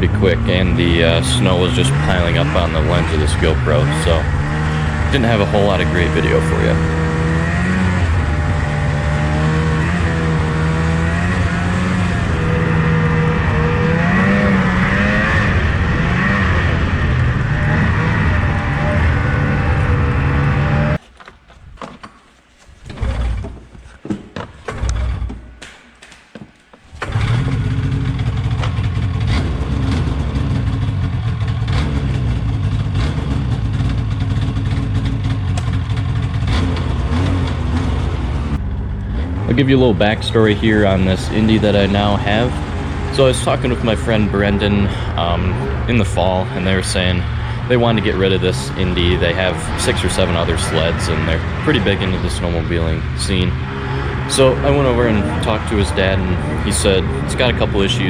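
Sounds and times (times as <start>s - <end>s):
two-stroke engine running: 0.0s - 21.0s, 26.9s - 58.0s.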